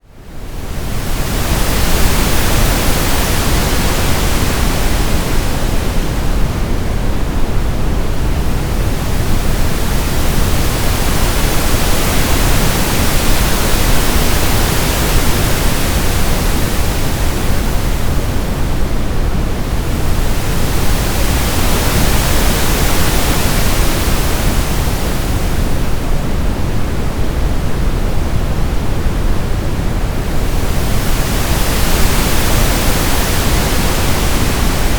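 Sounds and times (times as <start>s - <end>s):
synthetic brown and pink noise: 0.1s - 34.9s.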